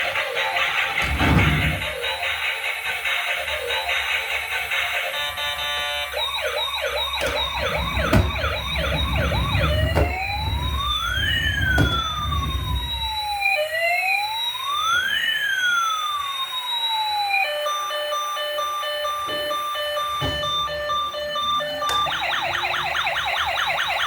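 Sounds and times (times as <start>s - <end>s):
electronic toy siren: 0.0s - 24.0s.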